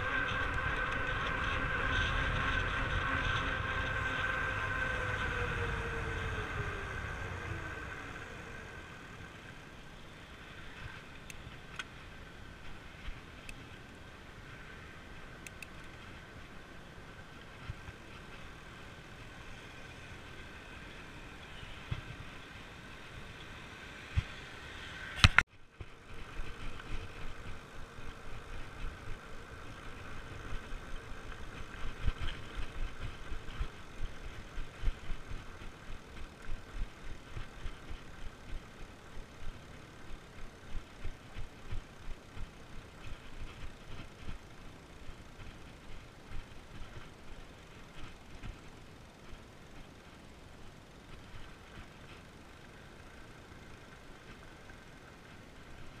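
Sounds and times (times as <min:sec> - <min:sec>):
bike tyres rolling on pavement: 0:00.0 - 0:56.0.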